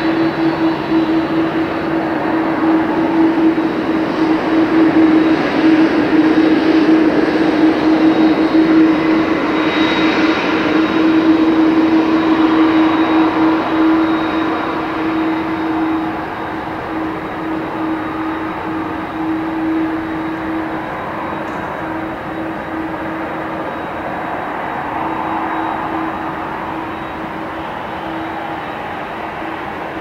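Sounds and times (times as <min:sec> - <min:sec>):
jet engines humming: 0:00.0 - 0:30.0.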